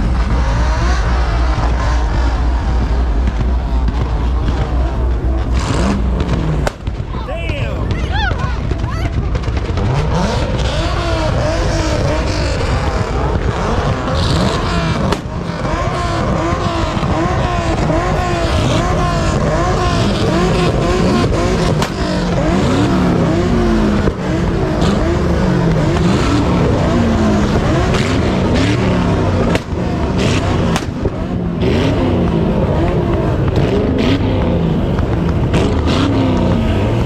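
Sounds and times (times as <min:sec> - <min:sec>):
car engine revving hard: 0:00.0 - 0:07.1, 0:07.9 - 0:37.0.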